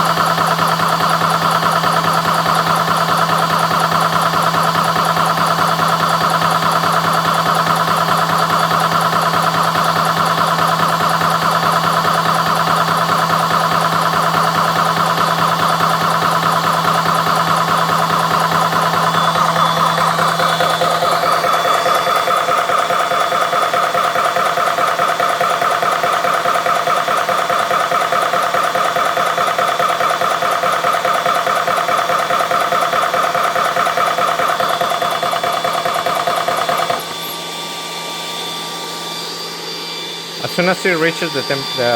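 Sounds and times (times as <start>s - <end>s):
air compressor pulsing chug: 0.0s - 41.9s.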